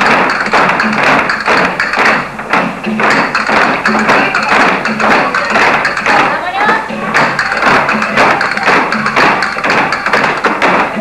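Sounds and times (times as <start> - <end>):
flamenco music: 0.0 - 11.0
heeled shoes stamping on wood: 0.0 - 11.0.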